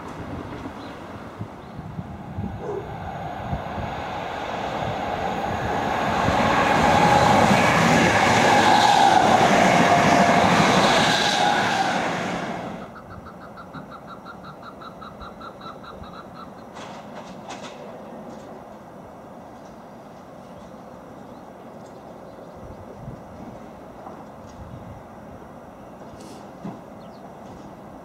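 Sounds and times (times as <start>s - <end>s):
passenger train passing: 0.0s - 28.0s.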